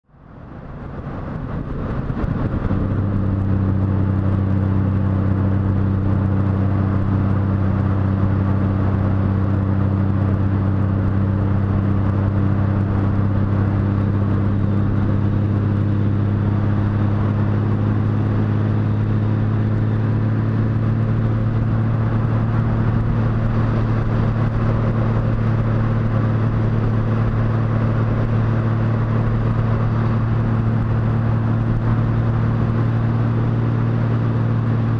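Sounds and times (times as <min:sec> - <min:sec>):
road noise: 0:00.0 - 0:34.9
motorcycle engine cruising: 0:00.3 - 0:34.9.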